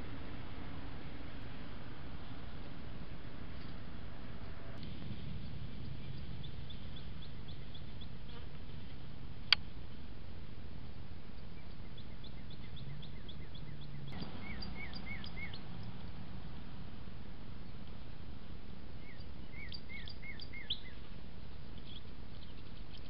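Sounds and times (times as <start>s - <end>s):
steady background hiss: 0.0s - 23.0s
birds chirping: 3.3s - 10.0s, 10.8s - 23.0s.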